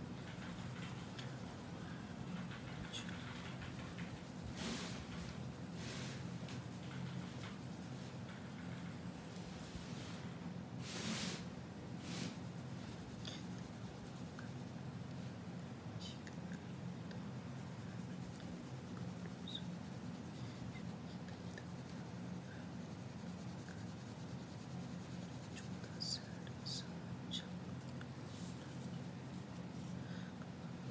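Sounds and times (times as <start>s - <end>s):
pencil scratching on paper: 0.0s - 14.8s, 16.2s - 26.9s
steady low hum: 0.0s - 30.9s.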